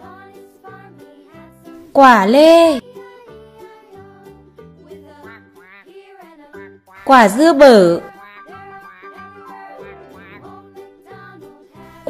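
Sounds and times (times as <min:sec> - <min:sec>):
soft children's tune: 0:00.0 - 0:12.0.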